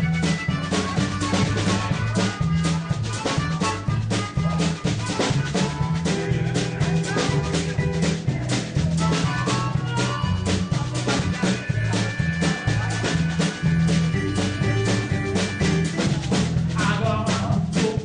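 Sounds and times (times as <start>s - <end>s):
bass line: 0.0s - 18.0s
blues band playing: 0.0s - 18.0s
drum kit beat: 0.0s - 18.0s.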